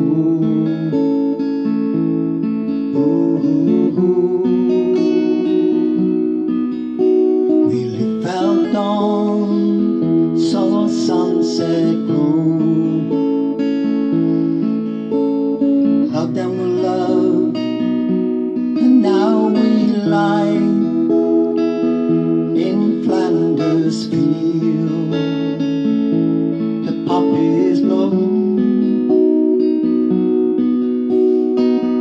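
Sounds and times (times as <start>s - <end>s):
person singing: 0.0s - 1.6s, 2.7s - 14.1s, 15.8s - 26.0s, 26.6s - 29.6s
acoustic guitar chords: 0.0s - 32.0s.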